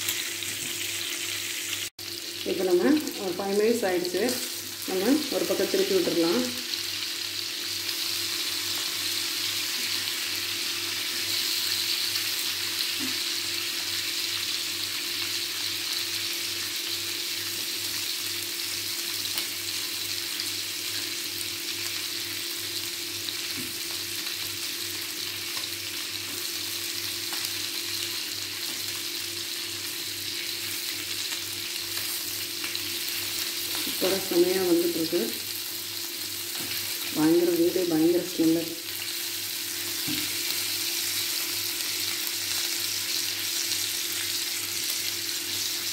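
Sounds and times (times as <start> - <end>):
meat sizzling in a pan: 0.0 - 45.9.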